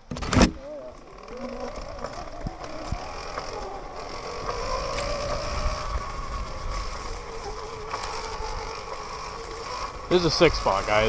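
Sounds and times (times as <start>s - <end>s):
drivetrain rattle and clicks: 0.0s - 11.0s
electric motor whine: 0.0s - 11.0s.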